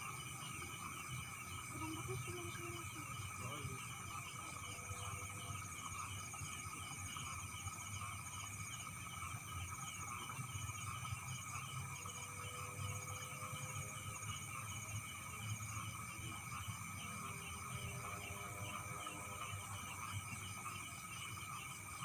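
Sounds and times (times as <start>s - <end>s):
crickets chirping: 0.0s - 22.0s
frogs trilling: 0.0s - 22.0s.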